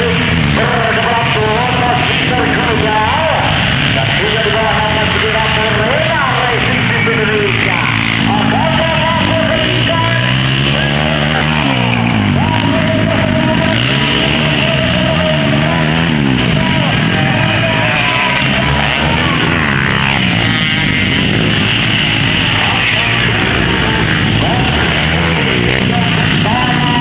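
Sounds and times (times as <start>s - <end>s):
loud music: 0.0s - 27.0s
motocross bike engines revving: 0.0s - 27.0s.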